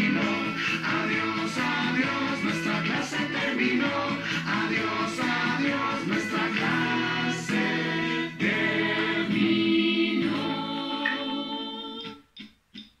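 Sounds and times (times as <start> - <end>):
children's song group singing: 0.0 - 12.2.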